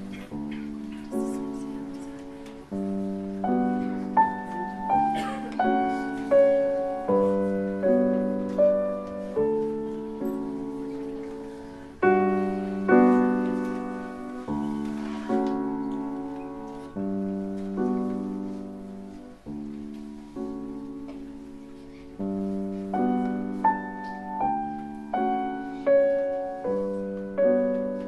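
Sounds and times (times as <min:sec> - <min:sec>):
slow solo piano chords: 0:00.0 - 0:28.0.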